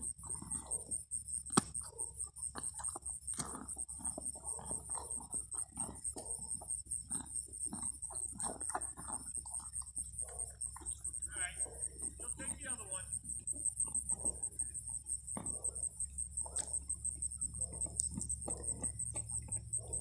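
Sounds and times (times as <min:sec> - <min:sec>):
animal chewing: 0:00.0 - 0:20.0.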